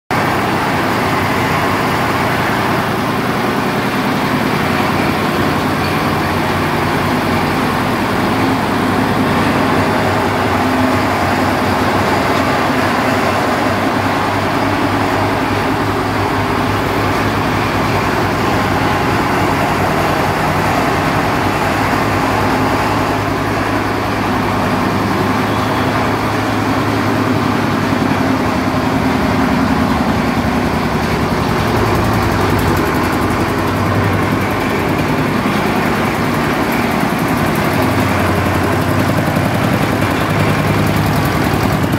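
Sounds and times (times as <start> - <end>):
diesel engine running steadily: 0.1 - 41.9.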